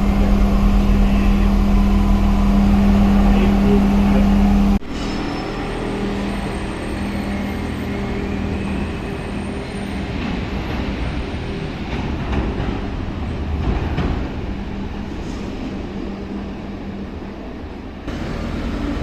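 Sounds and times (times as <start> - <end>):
tram motor hum: 0.0 - 19.0
wheels rumbling on rails: 0.0 - 19.0.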